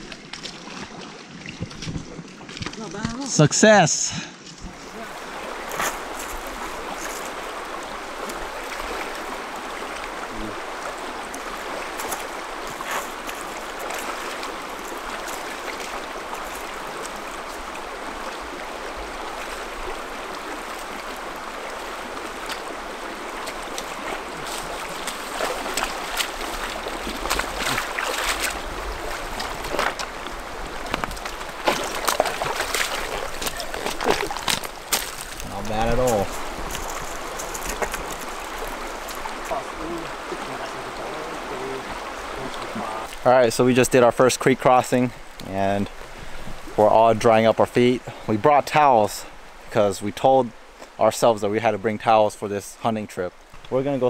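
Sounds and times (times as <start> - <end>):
splashes of people wading: 0.0 - 47.4
creek flowing over stones: 0.0 - 54.0.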